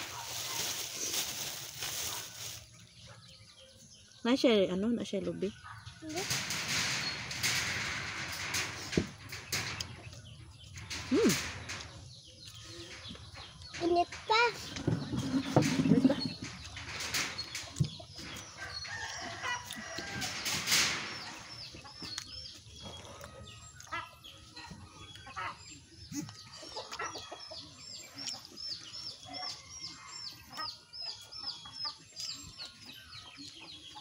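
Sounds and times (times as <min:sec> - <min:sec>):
chickens peeping: 0:00.0 - 0:34.0.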